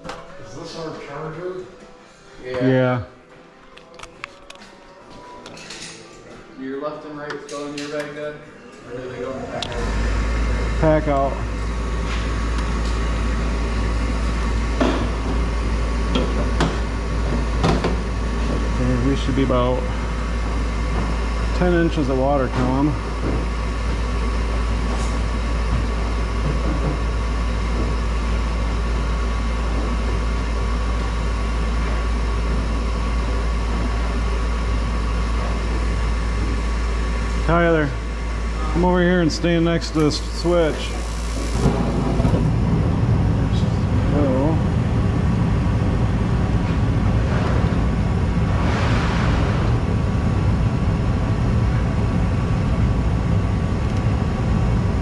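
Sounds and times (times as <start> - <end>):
gas heater rumble and hum: 6.8 - 55.0.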